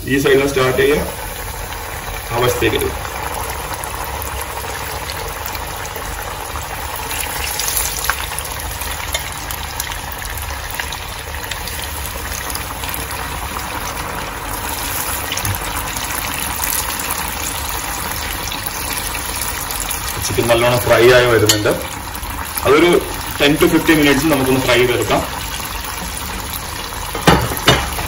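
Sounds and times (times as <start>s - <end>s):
chicken deep-frying in oil: 0.0s - 28.0s.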